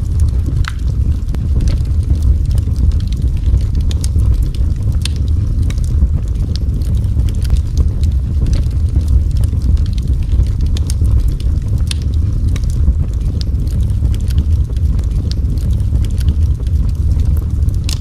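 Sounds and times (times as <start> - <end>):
fire crackles and pops: 0.0 - 18.0
wood fire roaring: 0.0 - 18.0.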